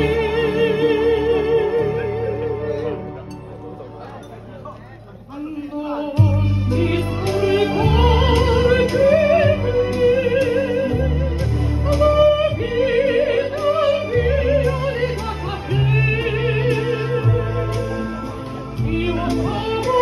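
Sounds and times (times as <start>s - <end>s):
soprano singing operatically: 0.0s - 3.0s, 5.3s - 18.2s, 18.8s - 20.0s.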